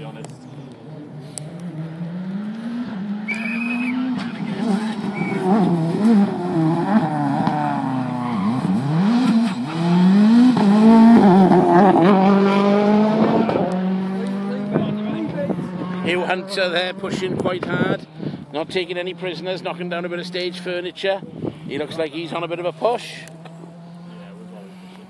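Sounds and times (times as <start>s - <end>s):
rally car engine revving: 0.0s - 20.8s, 22.3s - 25.0s.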